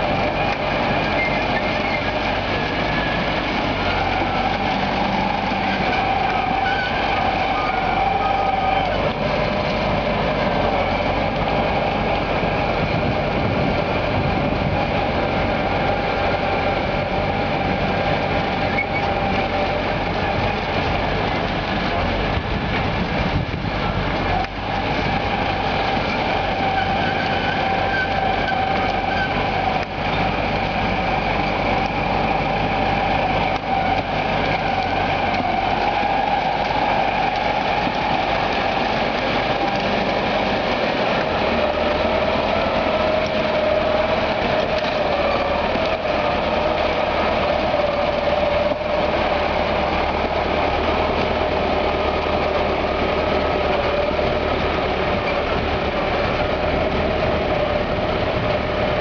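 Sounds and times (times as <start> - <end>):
diesel engine running with whine: 0.0 - 59.0.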